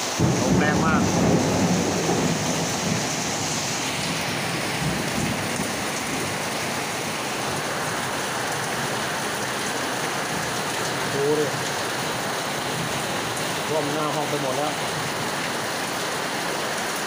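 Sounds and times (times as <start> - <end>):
heavy rain: 0.0 - 17.0
water pouring off roof: 0.0 - 17.0.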